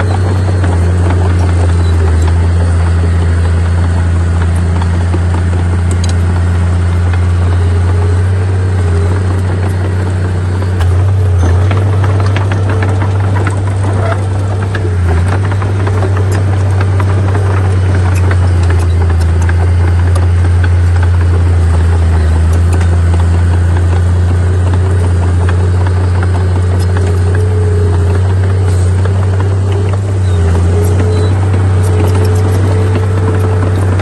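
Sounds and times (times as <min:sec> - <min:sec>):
diesel machinery droning: 0:00.0 - 0:34.0.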